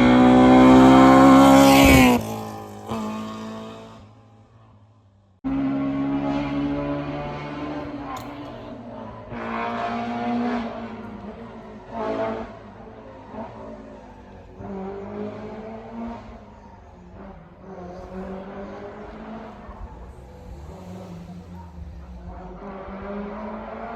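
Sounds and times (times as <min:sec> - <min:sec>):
rally car engine revving: 0:00.0 - 0:04.6, 0:05.5 - 0:23.9.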